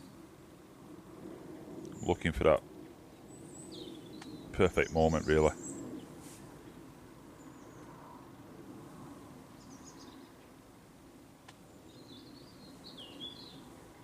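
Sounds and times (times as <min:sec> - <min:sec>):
small birds chirping: 0:01.8 - 0:10.6, 0:11.4 - 0:14.0.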